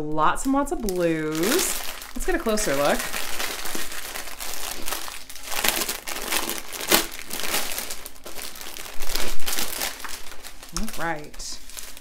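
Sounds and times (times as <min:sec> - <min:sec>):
plastic bags crinkling: 0:00.2 - 0:12.0.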